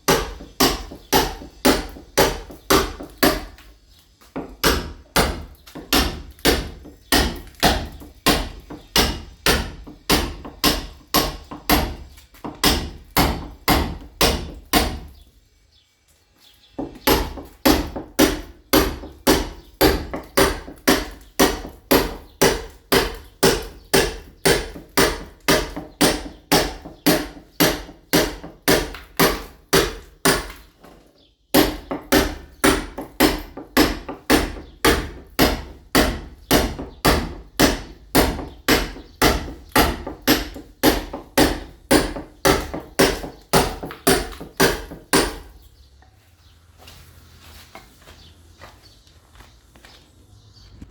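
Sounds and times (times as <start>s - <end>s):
hammer striking steel chisel: 0.0s - 3.6s, 4.4s - 15.1s, 16.8s - 30.6s, 31.6s - 45.6s.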